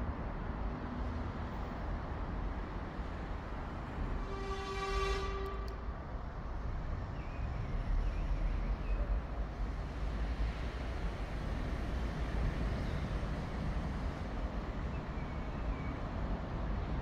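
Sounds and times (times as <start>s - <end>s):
traffic rumble on overpass: 0.0s - 17.0s.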